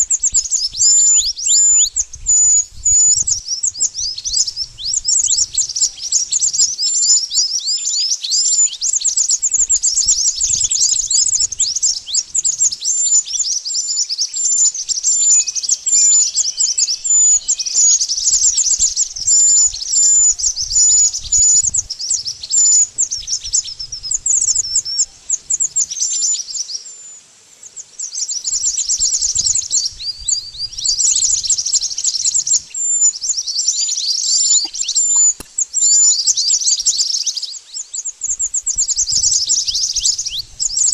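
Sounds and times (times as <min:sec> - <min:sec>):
bird chirping rapidly: 0:00.0 - 0:26.7, 0:28.0 - 0:40.9.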